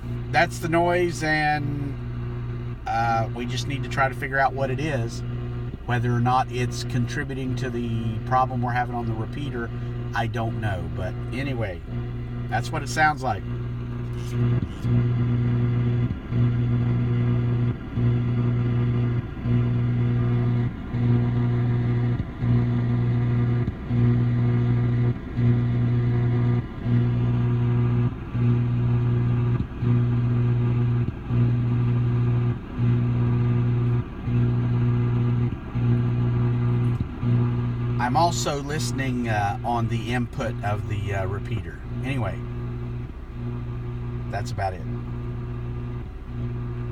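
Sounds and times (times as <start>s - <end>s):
radio interference buzz: 0.0s - 46.9s.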